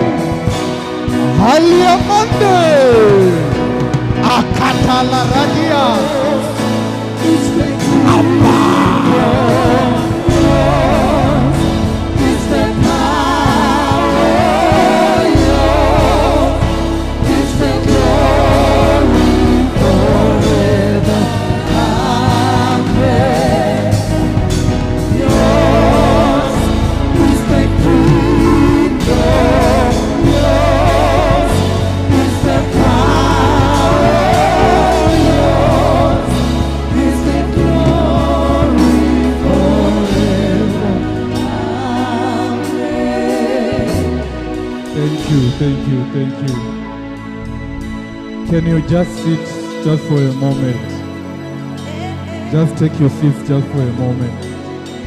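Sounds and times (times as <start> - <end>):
band with heavy bass: 0.0 - 49.8
vocalists singing with vibrato: 0.0 - 55.0.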